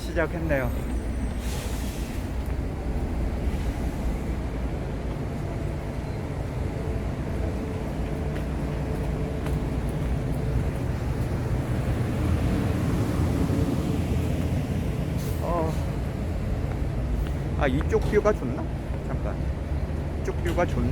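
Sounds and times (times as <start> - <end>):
road traffic rumble: 0.0 - 20.9.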